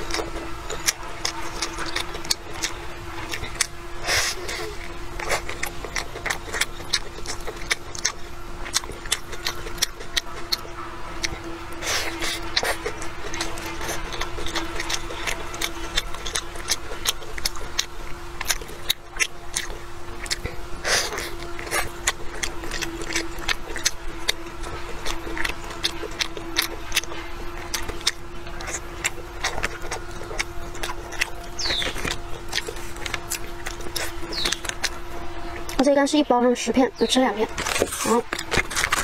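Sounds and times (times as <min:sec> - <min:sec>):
chewing mouth clicks and smacks: 0:00.0 - 0:35.9, 0:37.6 - 0:39.0
steady low hum: 0:00.0 - 0:39.0.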